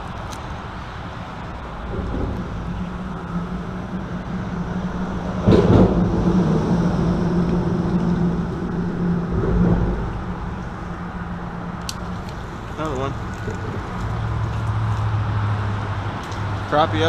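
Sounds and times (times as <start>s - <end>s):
traffic rumble overhead: 0.0s - 17.0s.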